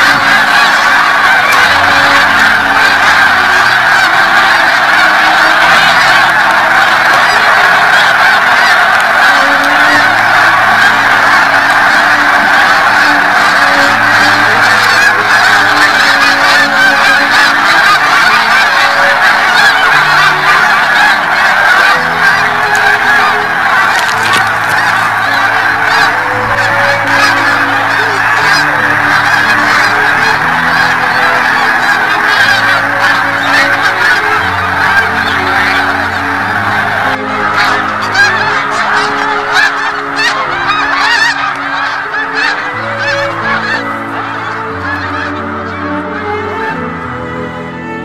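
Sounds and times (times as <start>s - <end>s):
flock of geese honking: 0.0s - 48.0s.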